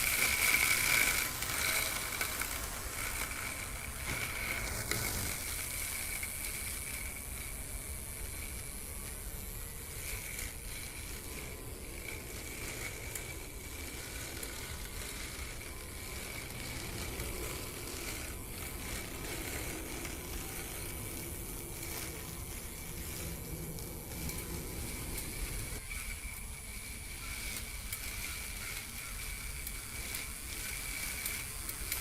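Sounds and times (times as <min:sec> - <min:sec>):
toy lawn mower hissing: 0:00.0 - 0:32.0.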